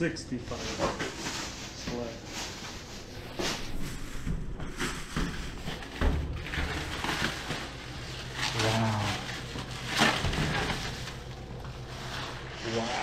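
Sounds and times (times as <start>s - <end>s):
plastic wrapping crinkling: 0.5s - 13.0s.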